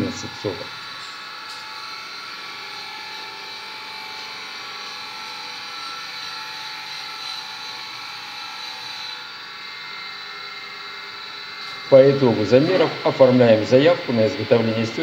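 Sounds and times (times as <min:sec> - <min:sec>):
high whining machinery hum: 0:00.0 - 0:15.0.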